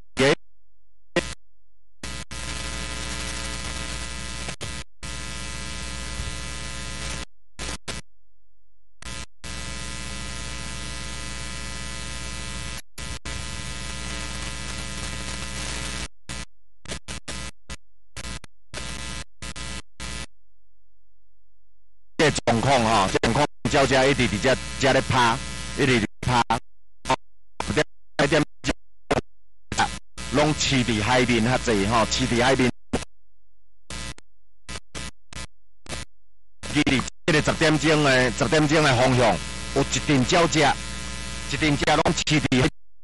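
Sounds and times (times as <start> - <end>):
electrical buzz and static: 0.2 - 0.4, 1.1 - 1.4, 2.0 - 8.1, 9.0 - 20.3, 22.2 - 33.1, 33.9 - 42.8.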